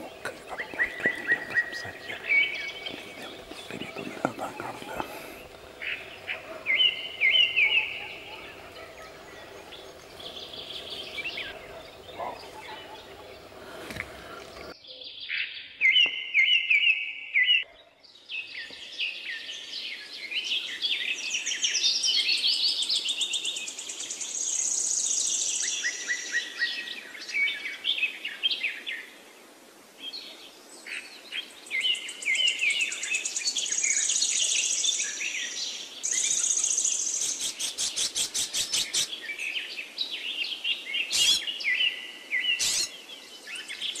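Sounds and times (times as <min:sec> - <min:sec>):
songbirds chirping and trilling: 0:00.0 - 0:44.0.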